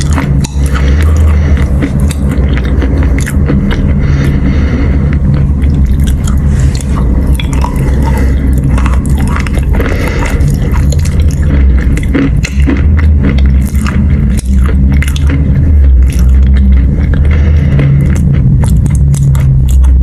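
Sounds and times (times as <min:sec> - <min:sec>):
chalk crunching while chewed: 0:00.0 - 0:20.0
steady low hum: 0:00.0 - 0:20.0.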